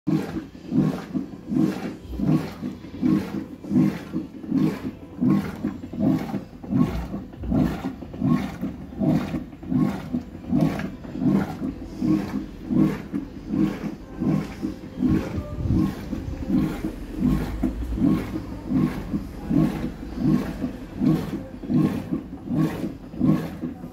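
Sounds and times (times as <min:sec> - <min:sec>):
washing machine agitating: 0:00.0 - 0:23.9.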